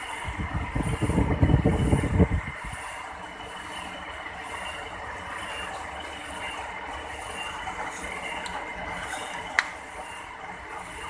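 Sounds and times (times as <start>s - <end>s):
low buffeting: 0.0s - 11.0s
metal lathe running: 0.0s - 11.0s.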